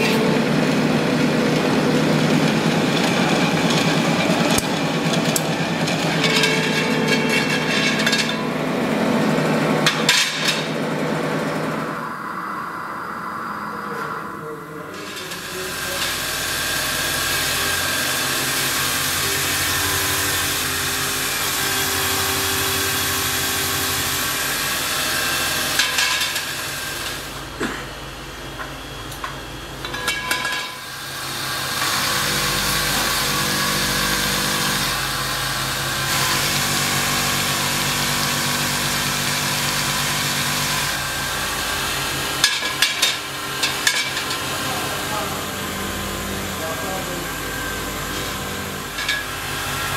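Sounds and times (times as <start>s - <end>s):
bench grinder grinding metal: 0.0s - 12.0s, 14.9s - 27.8s, 29.8s - 49.9s.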